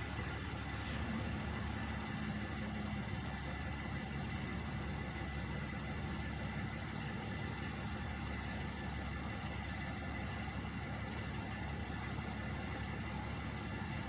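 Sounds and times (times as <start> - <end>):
truck engines idling: 0.0 - 14.0.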